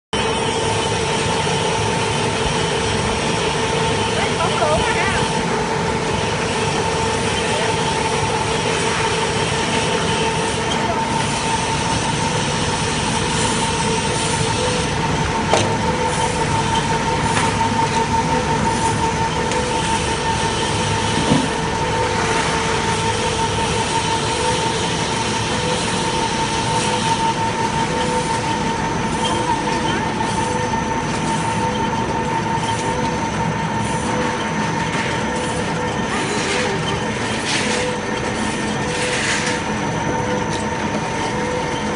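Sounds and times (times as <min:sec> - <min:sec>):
machine whine and mechanical noise: 0:00.1 - 0:41.9.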